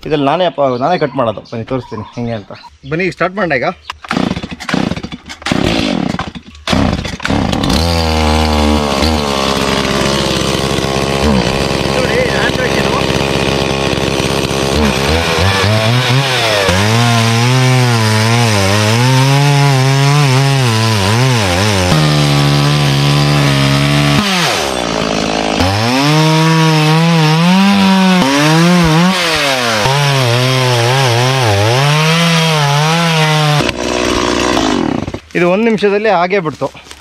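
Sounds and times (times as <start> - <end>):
chainsaw cutting log: 4.0 - 35.5.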